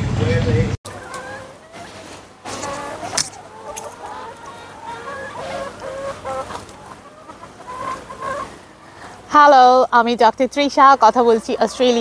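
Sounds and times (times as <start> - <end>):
hens clucking: 0.8 - 12.0.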